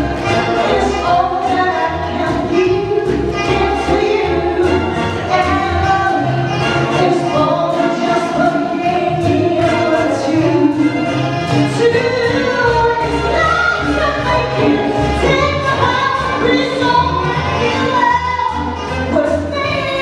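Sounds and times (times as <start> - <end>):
instrumental backing music: 0.0 - 20.0
woman singing into microphone: 0.6 - 20.0.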